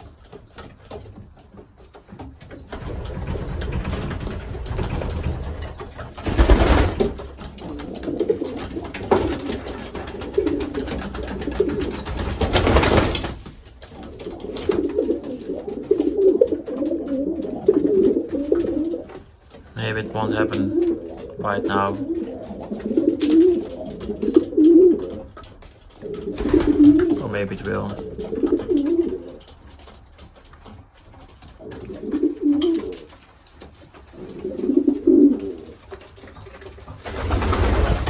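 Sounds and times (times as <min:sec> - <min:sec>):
pigeons cooing: 0:00.0 - 0:38.0.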